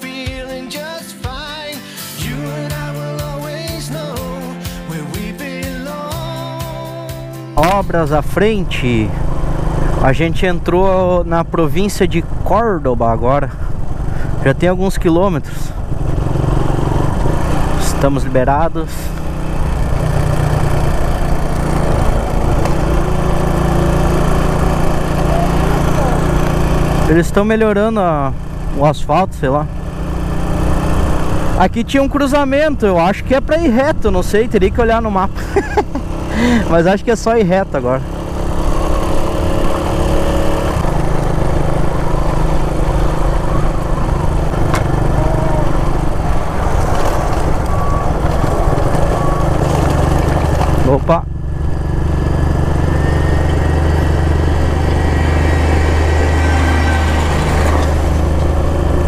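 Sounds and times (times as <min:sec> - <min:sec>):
motorcycle engine running: 0:02.3 - 0:59.0.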